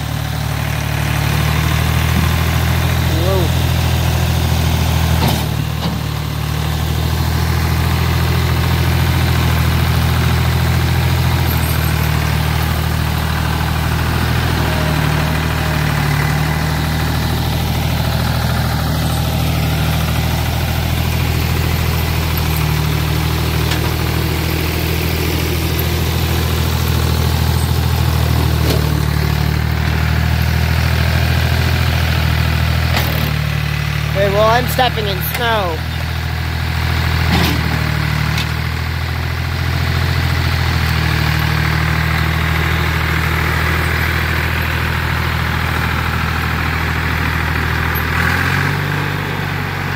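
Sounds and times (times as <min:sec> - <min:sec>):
tractor engine humming: 0:00.0 - 0:49.9.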